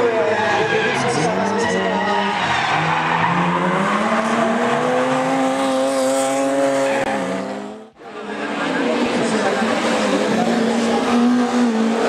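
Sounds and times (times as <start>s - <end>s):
race car engine at high revs: 1.8s - 12.0s.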